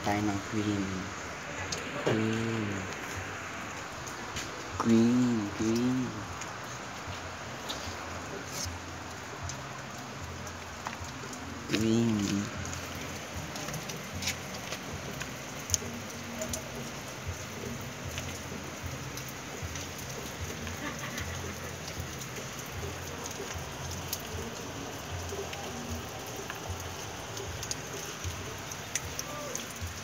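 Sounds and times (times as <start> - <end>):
rain falling: 0.0 - 30.0
sharp drip clicks: 1.7 - 30.0.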